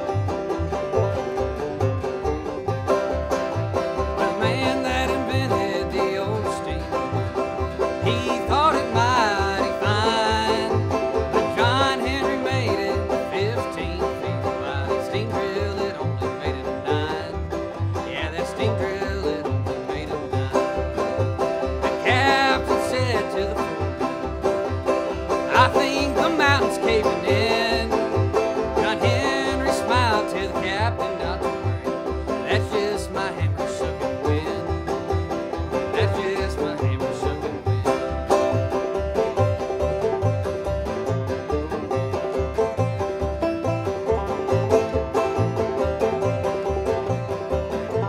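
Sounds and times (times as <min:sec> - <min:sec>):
banjo: 0:00.0 - 0:48.0
plucked washtub bass: 0:00.0 - 0:48.0
strummed acoustic guitar: 0:00.0 - 0:48.0.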